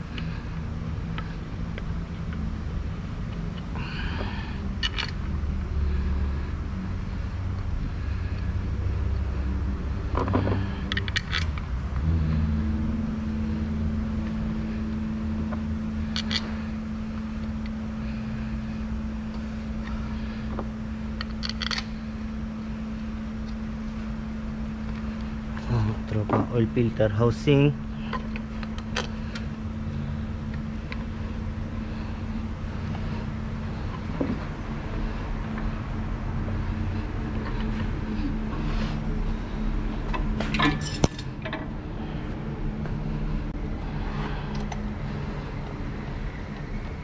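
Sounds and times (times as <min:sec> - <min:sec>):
low mechanical rumble: 0:00.0 - 0:47.0
steady hum: 0:00.0 - 0:47.0.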